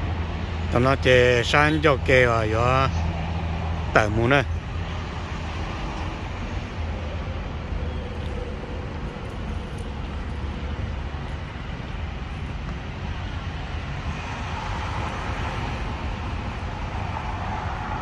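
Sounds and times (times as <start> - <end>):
highway traffic passing: 0.0 - 18.0.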